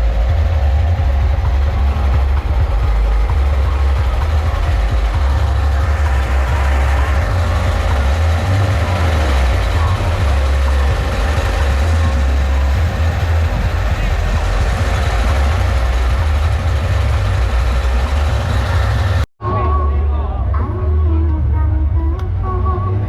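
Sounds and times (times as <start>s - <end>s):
crowd voices: 0.0s - 23.0s
loud deep bass drone: 0.0s - 23.0s.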